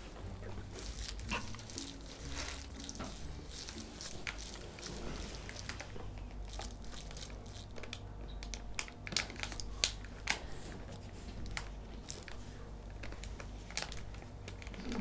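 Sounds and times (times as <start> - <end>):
crisp packet crinkling: 0.0 - 15.0.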